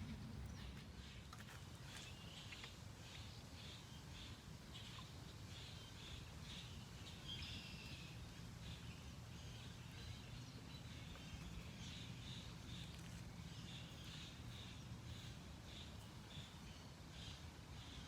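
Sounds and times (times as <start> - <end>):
low steady rumble: 0.0 - 17.9
birds chirping: 0.0 - 18.0.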